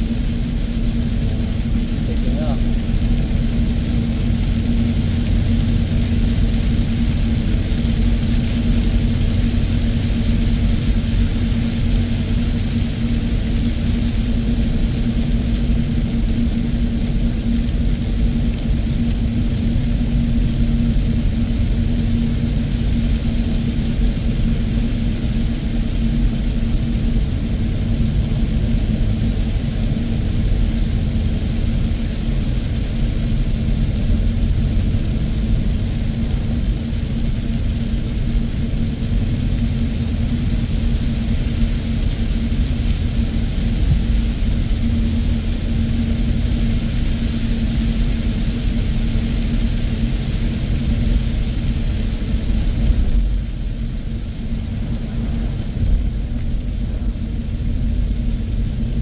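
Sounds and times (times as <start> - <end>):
car road and engine rumble: 0.0 - 59.0
rain: 0.0 - 59.0
tyres hissing on wet road: 0.0 - 59.0.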